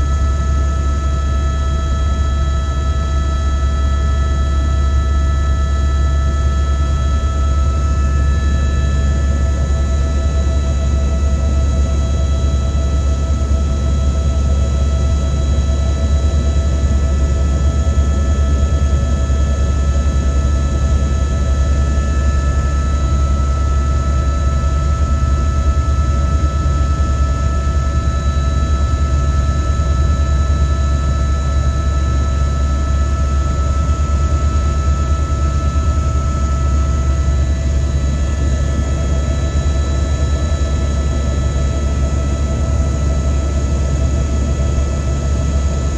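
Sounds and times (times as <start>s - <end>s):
helicopter rotor drone: 0.0s - 45.9s.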